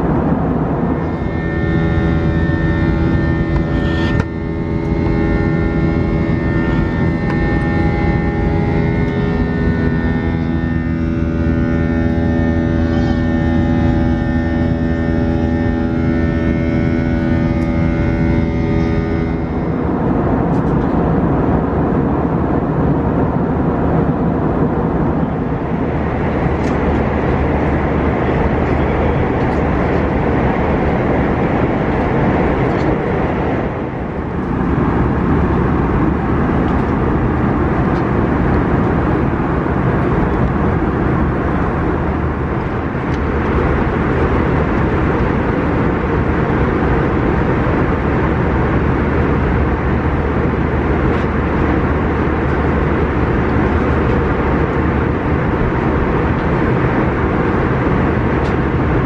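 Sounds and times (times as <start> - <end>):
rushing roar: 0.0 - 20.5, 24.3 - 59.0
aircraft cabin engine hum: 0.0 - 59.0.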